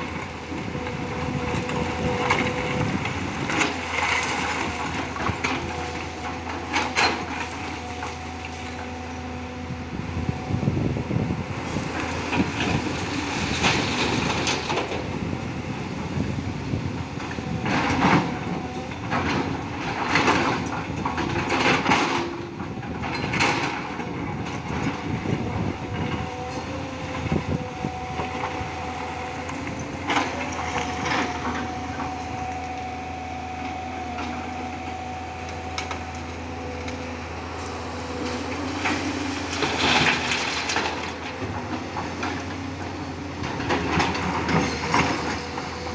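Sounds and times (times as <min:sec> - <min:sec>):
excavator drone: 0:00.0 - 0:45.9.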